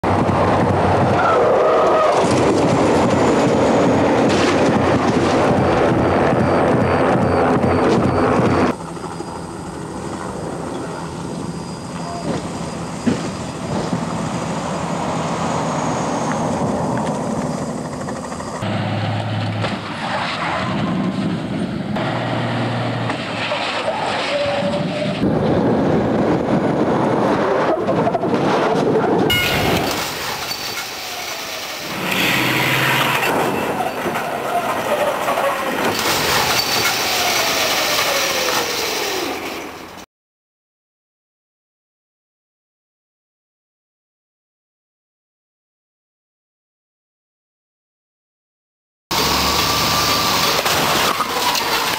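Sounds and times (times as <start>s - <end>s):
truck and car noise: 0.0s - 40.1s, 49.1s - 51.9s.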